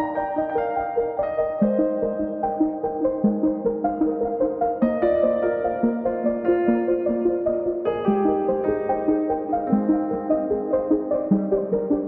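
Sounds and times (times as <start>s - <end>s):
melody over held chords: 0.0s - 12.0s.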